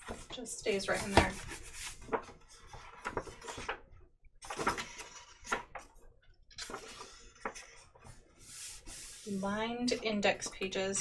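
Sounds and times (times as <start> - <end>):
notebook pages rustling: 0.0 - 6.0, 6.6 - 10.0.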